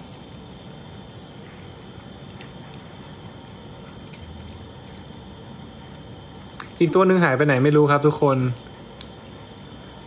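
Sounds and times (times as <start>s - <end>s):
night insects chirping: 0.0s - 10.0s.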